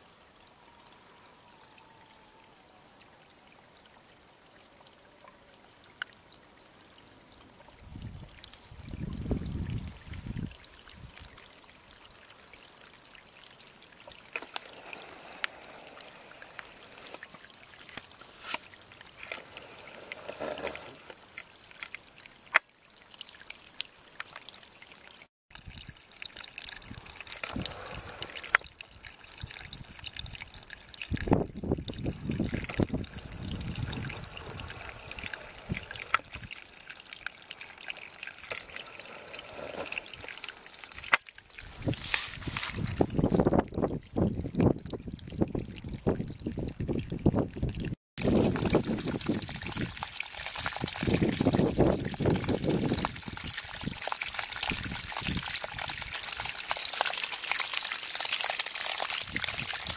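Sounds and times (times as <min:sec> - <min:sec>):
water trickling in stream: 0:00.0 - 0:59.9.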